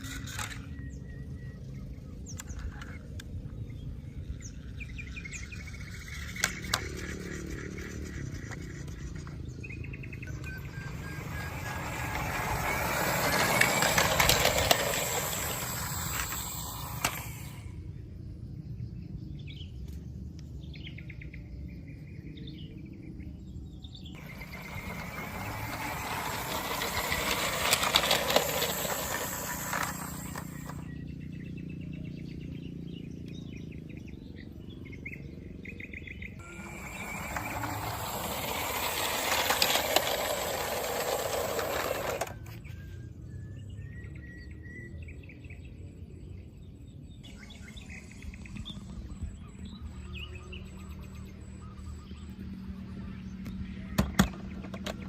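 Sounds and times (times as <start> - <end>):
birds chirping: 0.0 - 18.0, 18.6 - 55.0.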